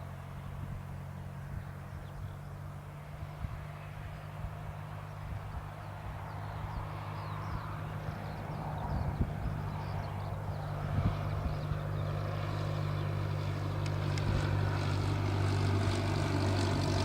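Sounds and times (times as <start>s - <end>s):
distant propeller plane droning: 0.0s - 17.0s.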